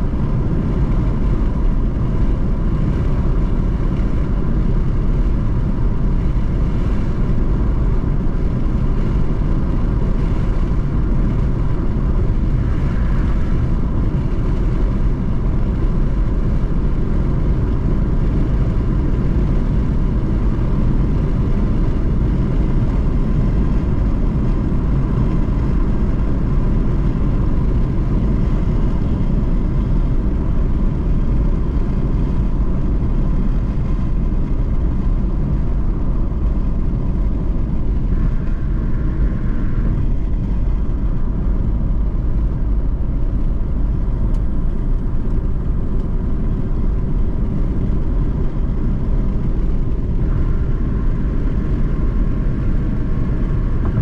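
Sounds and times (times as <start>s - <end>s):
tyre and engine rumble: 0.0s - 54.0s.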